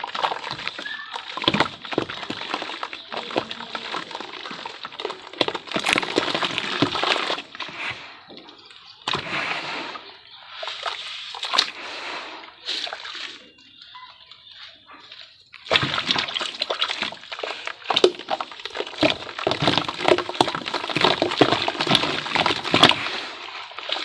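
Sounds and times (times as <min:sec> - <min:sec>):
wet sloshing and crackling: 0:00.0 - 0:13.8, 0:14.6 - 0:24.0.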